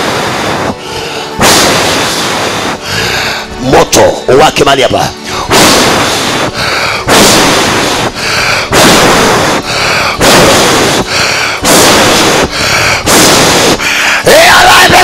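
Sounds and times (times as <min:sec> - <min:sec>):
distorted blasts through speakers: 0:00.0 - 0:15.0.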